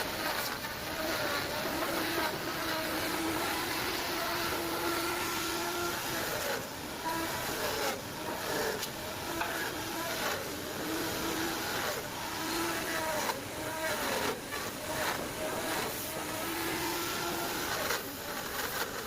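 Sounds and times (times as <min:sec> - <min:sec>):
power tool cutting wood: 0:00.0 - 0:19.0.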